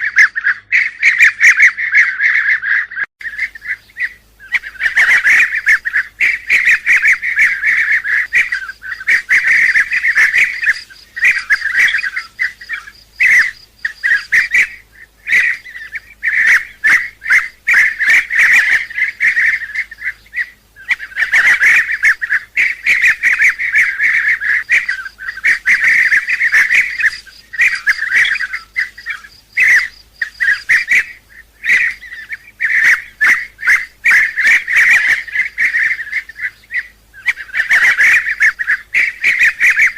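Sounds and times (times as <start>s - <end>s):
birds calling with rolling calls: 0.0s - 39.9s.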